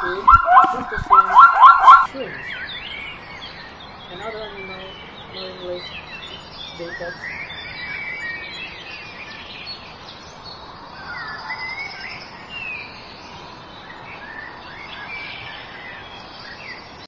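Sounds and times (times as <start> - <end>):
outdoor background hiss: 0.0 - 17.0
small birds chirping: 0.0 - 17.0.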